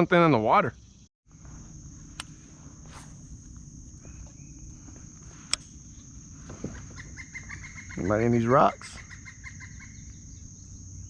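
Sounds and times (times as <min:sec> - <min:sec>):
crickets chirping: 0:00.6 - 0:11.0.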